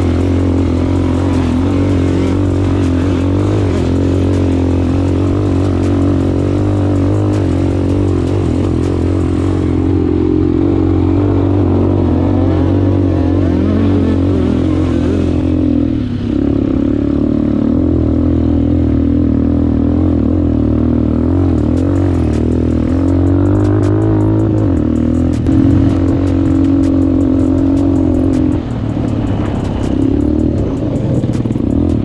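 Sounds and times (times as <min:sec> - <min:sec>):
quad engine revving: 0:00.0 - 0:32.0.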